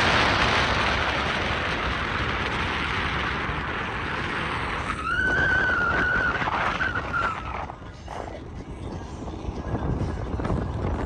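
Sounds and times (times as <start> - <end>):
road noise: 0.0 - 11.0
wind rushing over microphone: 0.0 - 11.0.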